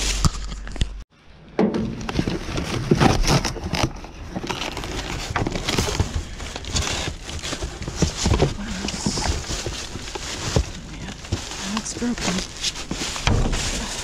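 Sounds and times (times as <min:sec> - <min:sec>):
plastic bags rustling: 0:01.9 - 0:14.0
cardboard box pulled about: 0:02.0 - 0:14.0.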